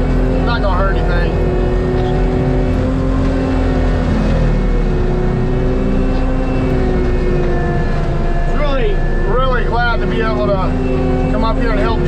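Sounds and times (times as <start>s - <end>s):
mulcher engine grinding brush: 0.0s - 12.0s.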